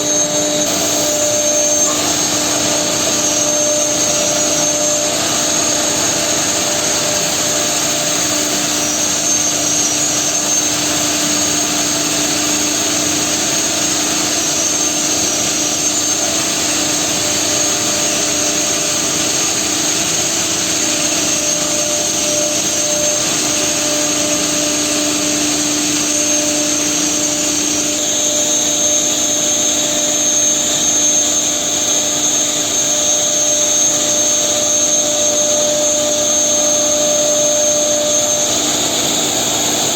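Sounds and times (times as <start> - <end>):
cnc router running: 0.0 - 39.9.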